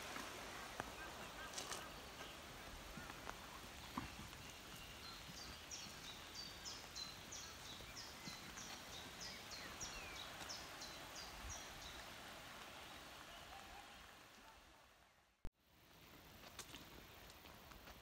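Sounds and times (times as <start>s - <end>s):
faint outdoor hiss: 0.0s - 18.0s.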